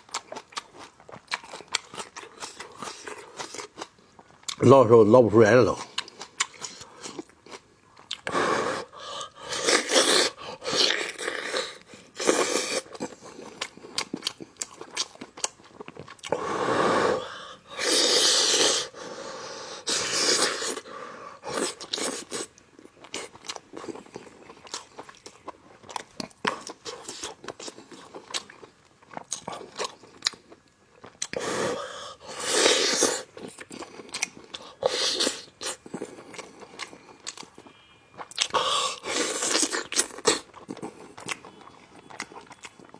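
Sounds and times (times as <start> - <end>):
wet chewing and biting: 0.0 - 4.6, 5.8 - 8.4, 9.2 - 16.4, 19.9 - 31.5, 32.2 - 42.9.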